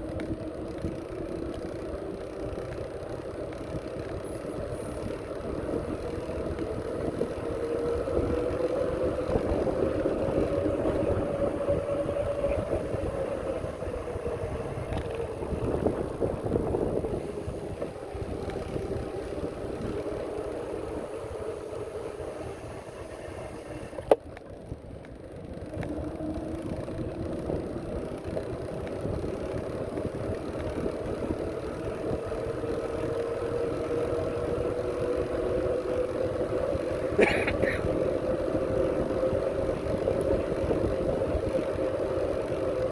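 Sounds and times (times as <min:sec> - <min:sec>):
wind rumbling on microphone: 0:00.0 - 0:42.9.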